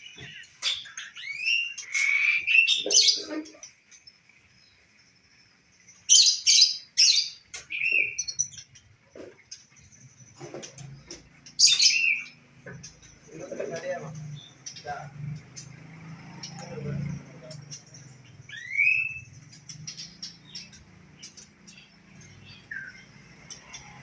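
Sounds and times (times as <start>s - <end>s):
songbirds chirping and whistling: 0.0s - 24.0s.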